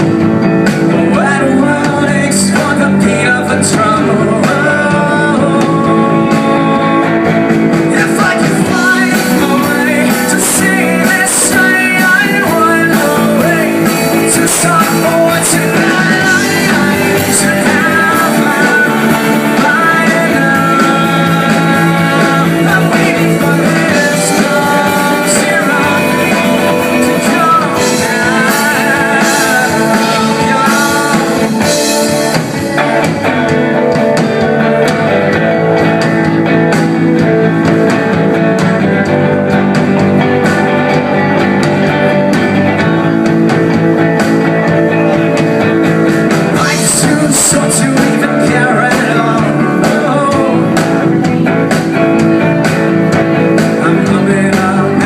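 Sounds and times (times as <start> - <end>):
live rock band playing: 0.0 - 55.0
person singing: 0.0 - 55.0.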